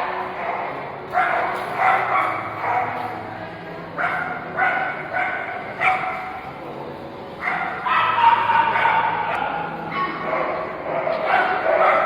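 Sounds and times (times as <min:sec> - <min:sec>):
dogs barking and yipping: 0:00.0 - 0:03.1, 0:04.0 - 0:06.4, 0:07.4 - 0:12.0.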